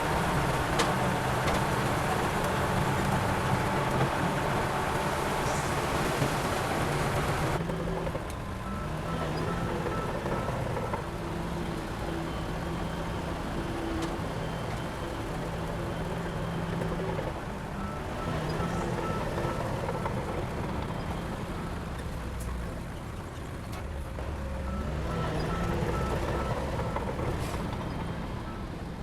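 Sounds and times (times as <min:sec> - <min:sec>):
diesel earthmoving machinery running: 0:00.0 - 0:29.0.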